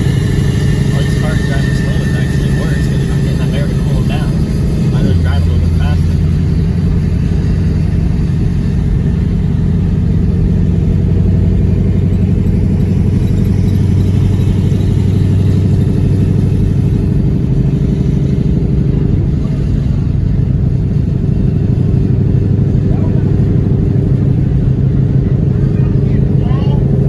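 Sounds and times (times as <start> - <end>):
car engine drone: 0.0 - 27.0
road noise: 0.0 - 27.0.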